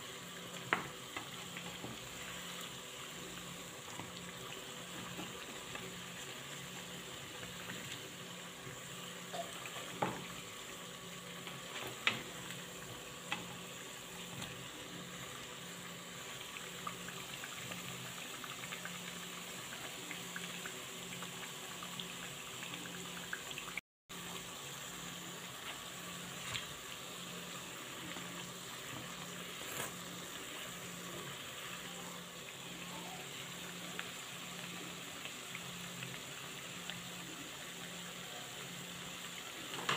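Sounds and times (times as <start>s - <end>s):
dough sizzling in hot oil: 0.0s - 39.9s.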